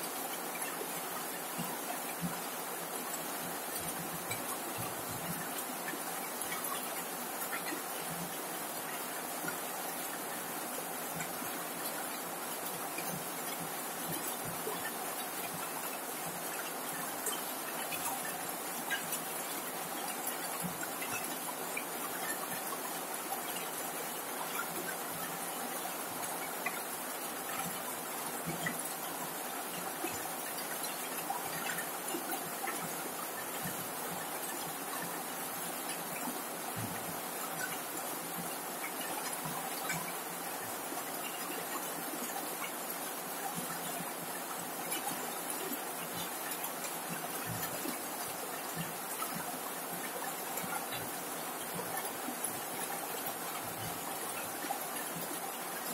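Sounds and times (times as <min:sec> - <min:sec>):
raindrop ticks: 0:00.3 - 0:55.9.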